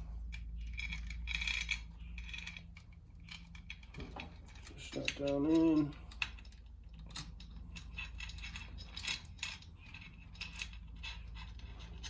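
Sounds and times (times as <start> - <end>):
metal parts clicking and clinking: 0.0 - 12.0
steady low hum: 0.0 - 12.0.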